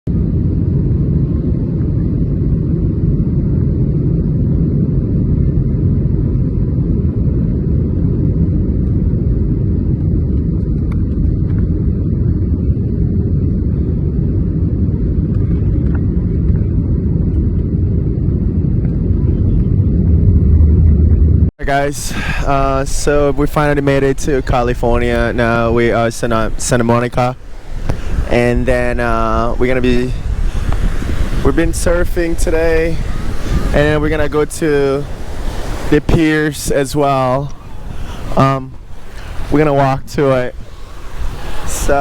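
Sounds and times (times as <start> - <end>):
loud low rumbling noise: 0.1 - 42.0.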